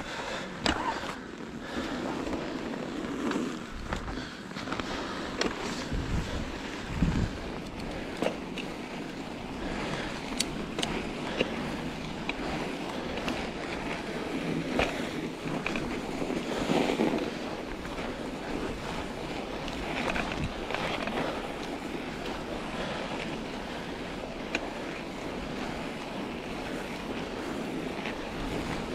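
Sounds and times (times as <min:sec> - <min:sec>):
bike clicks and knocks over bumps: 0:00.0 - 0:28.9
bike tyres rolling on snow: 0:00.0 - 0:28.9.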